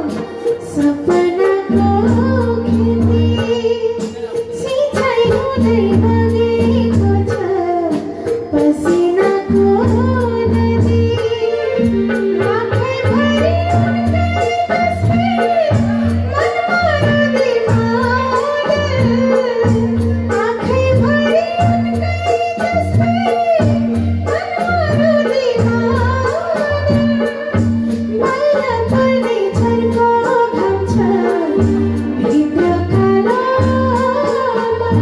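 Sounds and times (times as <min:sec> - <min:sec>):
band accompaniment with low beat: 0:00.0 - 0:35.0
woman singing into a microphone: 0:00.0 - 0:35.0.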